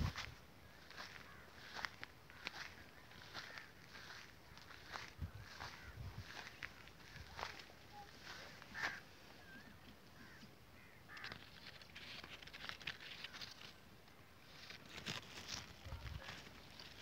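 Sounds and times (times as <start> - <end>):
rustling of vine leaves: 0.0 - 17.0.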